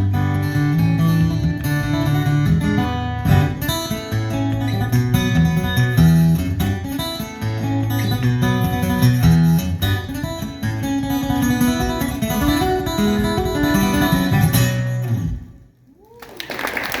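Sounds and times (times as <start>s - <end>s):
acoustic guitar strummed and picked: 0.0s - 15.8s.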